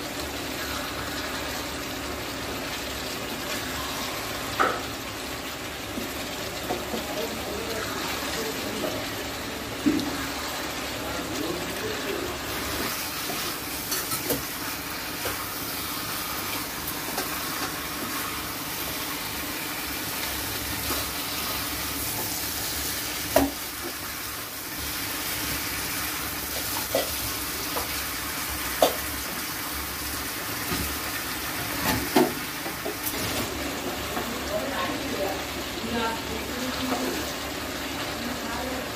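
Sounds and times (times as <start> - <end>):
curry sizzling in a pan: 0.0 - 38.9.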